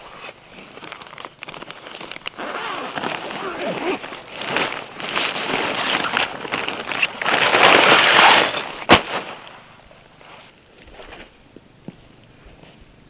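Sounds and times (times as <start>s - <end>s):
tent bag fabric rustling: 0.0s - 11.4s.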